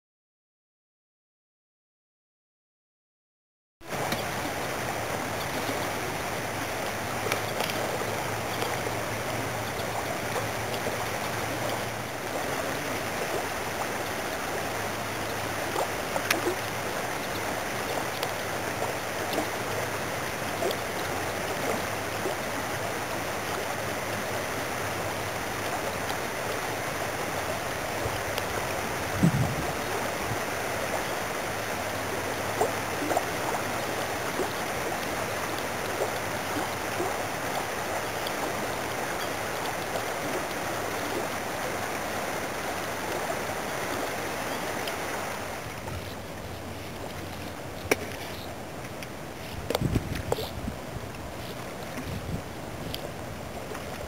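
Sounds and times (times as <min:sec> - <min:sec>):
creek water flowing over rocks: 0:03.8 - 0:54.0.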